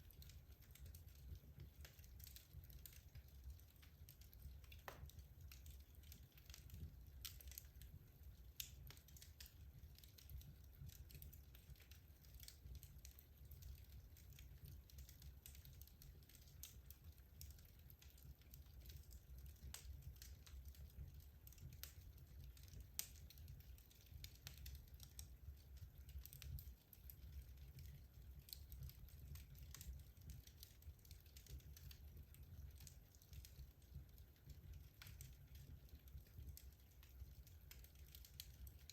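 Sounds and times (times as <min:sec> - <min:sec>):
wood logs crackling in fireplace: 0:00.0 - 0:38.9.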